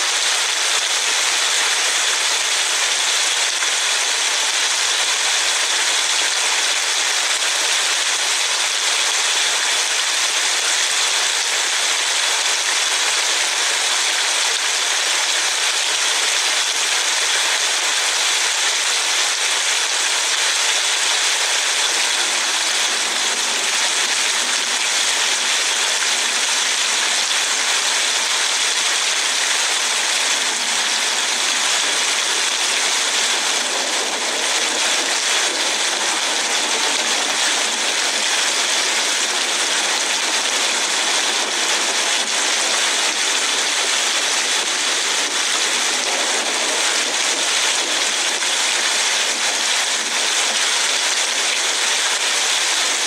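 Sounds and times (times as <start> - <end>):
rain on a car: 0.0 - 53.0.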